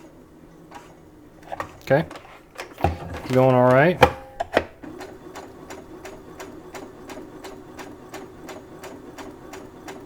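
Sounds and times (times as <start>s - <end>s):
sewing machine motor hum: 0.0s - 10.0s.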